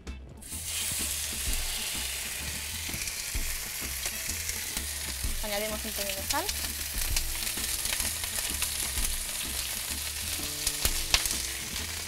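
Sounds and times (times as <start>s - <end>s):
meat sizzling in a frying pan: 0.4s - 12.0s.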